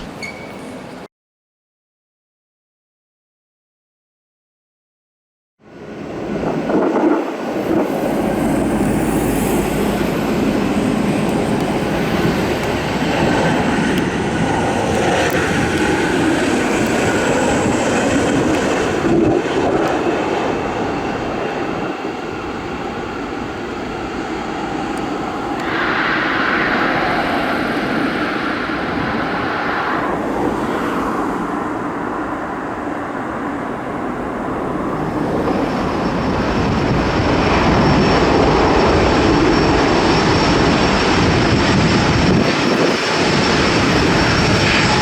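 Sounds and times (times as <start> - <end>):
jet engines roaring: 5.7 - 45.0.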